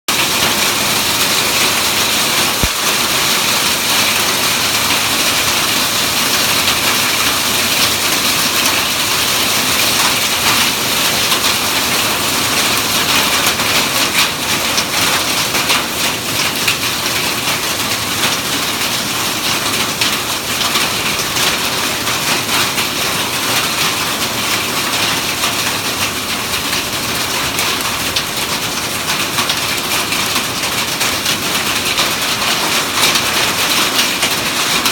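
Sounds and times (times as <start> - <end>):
hail pelting down: 0.1 - 34.9.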